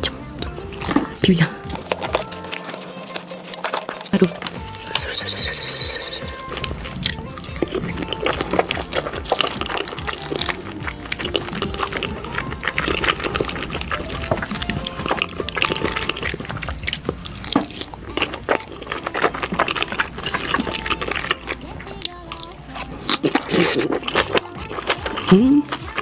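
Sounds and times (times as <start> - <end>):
background music: 0.0 - 26.0
wet sticky eating sounds: 0.0 - 26.0.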